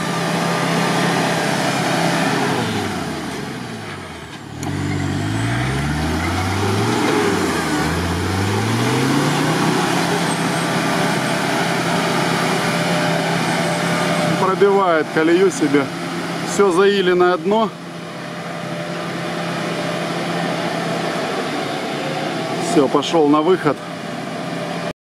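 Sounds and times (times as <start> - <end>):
off-road engine revving: 0.0 - 24.9.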